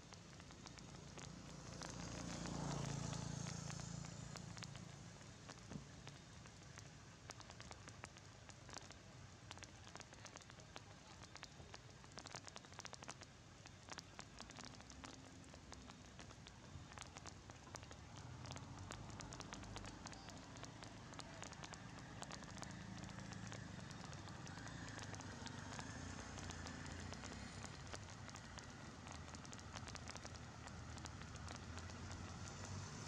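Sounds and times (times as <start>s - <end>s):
rain dripping and pattering: 0.0s - 33.0s.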